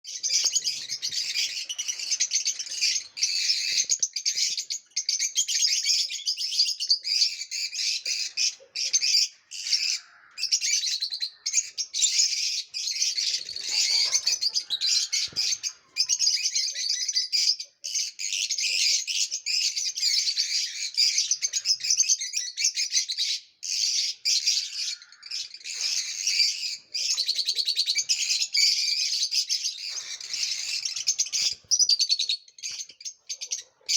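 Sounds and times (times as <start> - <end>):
lovebirds chirping: 0.0 - 33.9.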